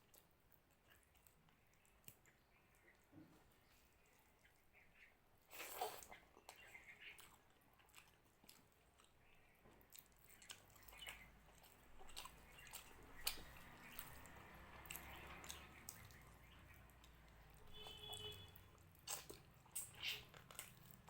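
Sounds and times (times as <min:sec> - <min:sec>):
wet chewing: 0:00.0 - 0:03.1, 0:05.5 - 0:21.0.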